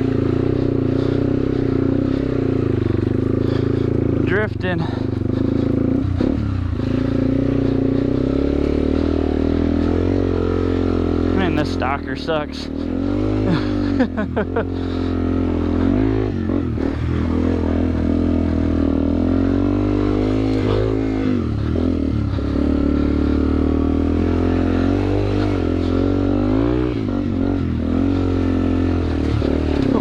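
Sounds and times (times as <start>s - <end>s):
dirtbike engine revving: 0.0s - 30.0s.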